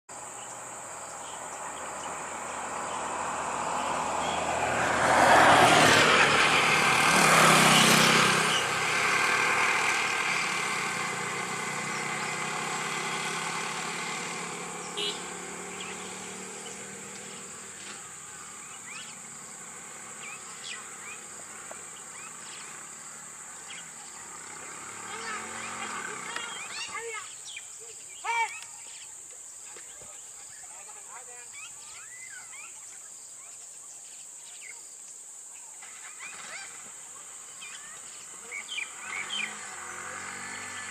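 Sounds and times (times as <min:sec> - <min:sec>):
vehicle passing: 0:00.4 - 0:28.2, 0:35.8 - 0:40.9.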